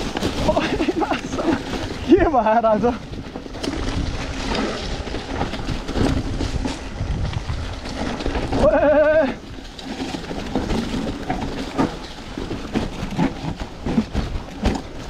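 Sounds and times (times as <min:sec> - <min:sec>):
bike rattling on rough trail: 0:00.0 - 0:15.0
wind rumble on microphone: 0:00.0 - 0:15.0.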